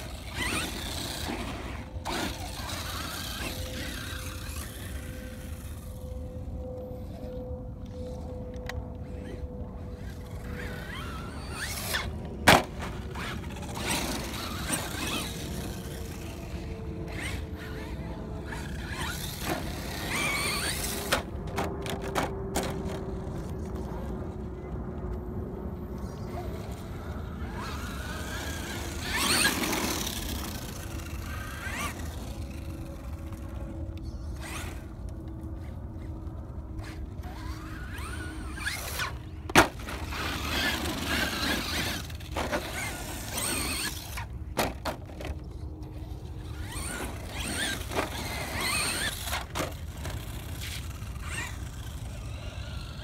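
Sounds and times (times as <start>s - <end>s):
toy truck electric motor whining: 0.0s - 12.1s, 12.8s - 23.5s, 26.2s - 53.0s.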